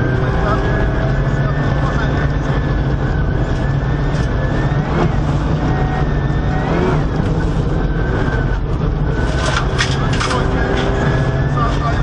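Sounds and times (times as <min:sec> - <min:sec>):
car engine revving high: 0:00.0 - 0:12.0
road rumble: 0:00.0 - 0:12.0.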